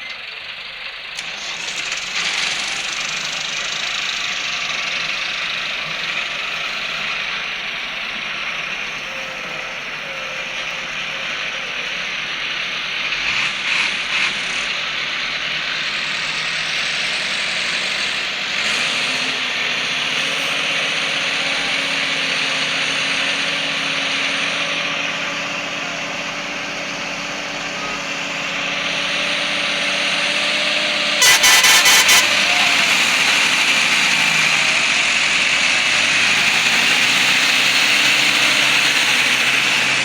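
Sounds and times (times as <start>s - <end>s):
tractor engines running: 0.0s - 40.0s.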